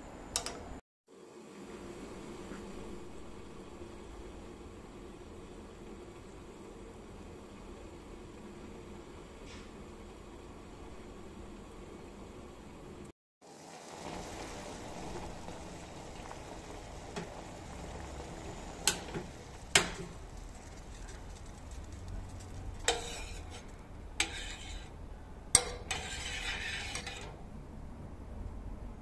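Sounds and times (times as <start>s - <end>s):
liquid bubbling in a saucepan: 1.1s - 27.4s.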